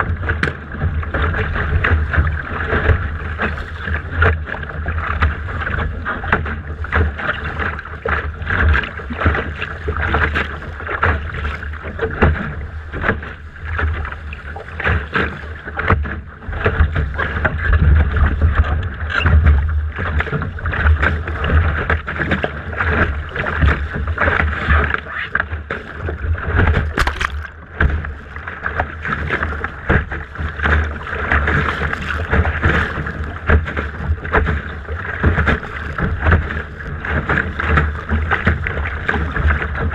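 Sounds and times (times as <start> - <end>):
water splashing against hull: 0.0 - 39.9.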